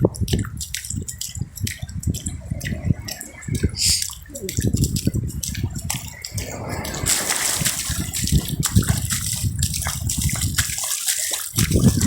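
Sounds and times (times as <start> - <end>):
stream water rushing: 2.3 - 12.0.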